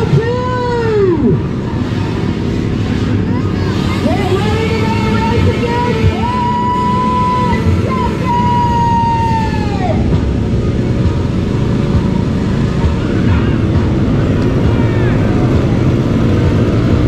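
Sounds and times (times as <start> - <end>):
atv engine revving high: 0.0 - 17.0
rumble of quad engines: 0.0 - 17.0.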